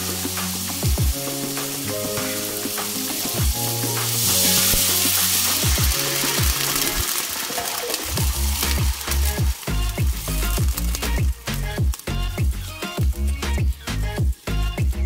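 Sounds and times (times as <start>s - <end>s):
soft background music: 0.0s - 13.1s
sauce sizzling in hot pan: 0.0s - 15.0s.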